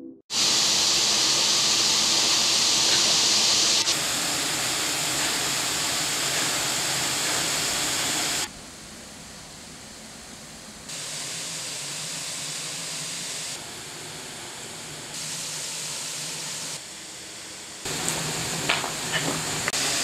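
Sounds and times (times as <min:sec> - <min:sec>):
outdoor ambient hiss: 0:00.3 - 0:20.0.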